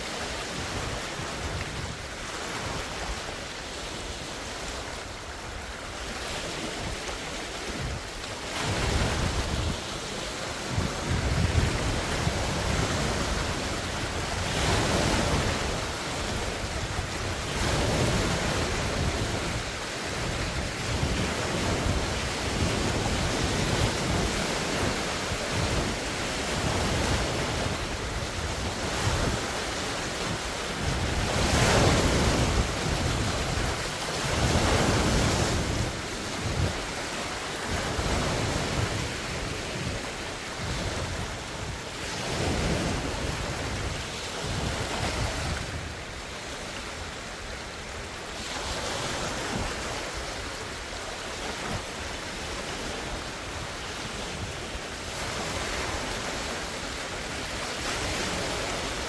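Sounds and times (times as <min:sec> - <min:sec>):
wind buffeting microphone: 0:00.0 - 0:03.4, 0:04.0 - 0:50.5
waves breaking on a shore: 0:00.0 - 0:59.0.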